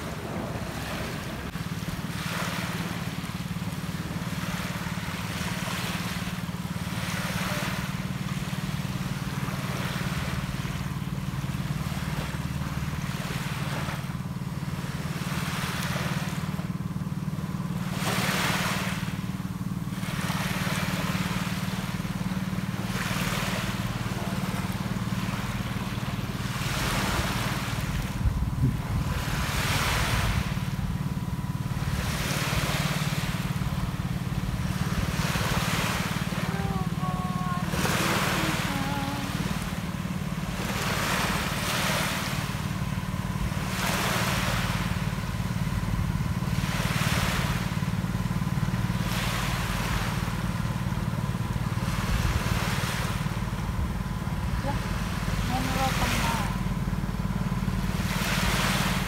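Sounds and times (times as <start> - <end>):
small waves washing onto beach: 0.0 - 59.0
steady low drone: 0.0 - 59.0.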